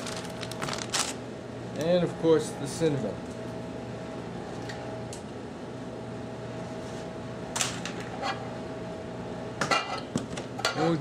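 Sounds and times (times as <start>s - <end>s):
kitchen background hum: 0.0s - 11.0s.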